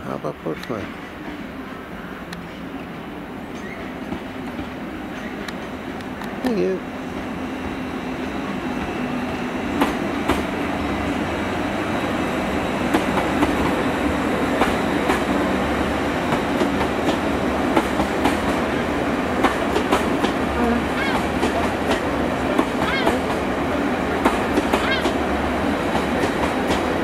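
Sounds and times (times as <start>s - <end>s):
train running hum: 0.0s - 27.0s.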